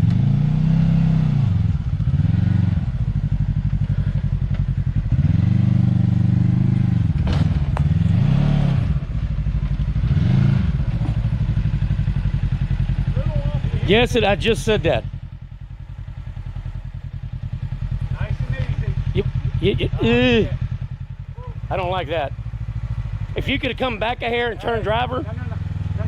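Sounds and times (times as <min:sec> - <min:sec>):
engine revving: 0:00.0 - 0:15.2, 0:17.4 - 0:26.0.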